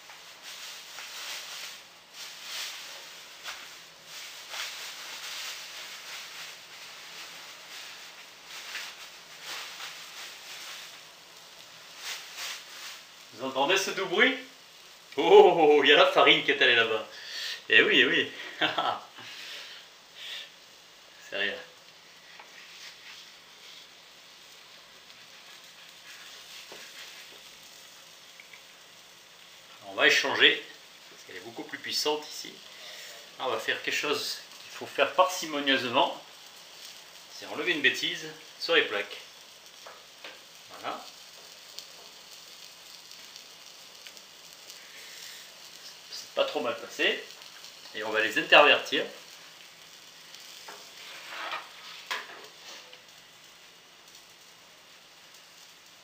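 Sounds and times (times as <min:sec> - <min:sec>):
fish sizzling in frying pan: 0:00.0 - 0:56.0.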